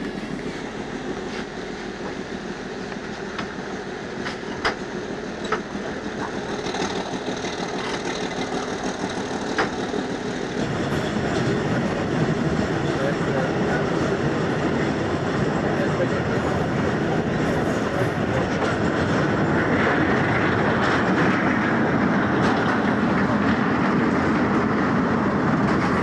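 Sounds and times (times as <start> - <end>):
wheels rumbling on rails: 0.0 - 26.0.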